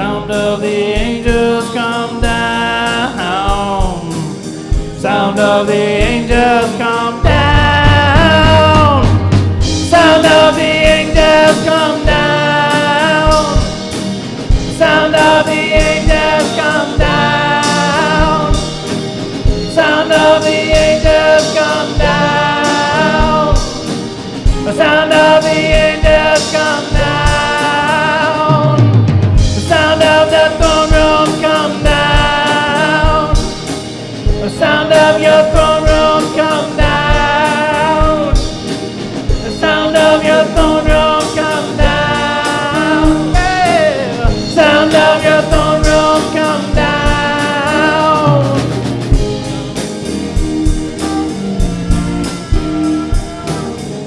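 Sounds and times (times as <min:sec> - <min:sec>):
man singing: 0:00.0 - 0:50.1
drum kit: 0:00.0 - 0:54.0
electric guitar: 0:00.0 - 0:54.0.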